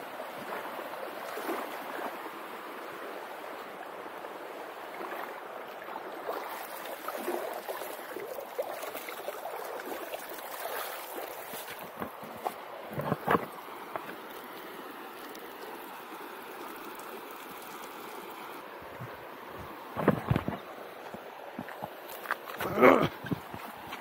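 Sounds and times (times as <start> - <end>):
stream babbling over pebbles: 0.0 - 24.0.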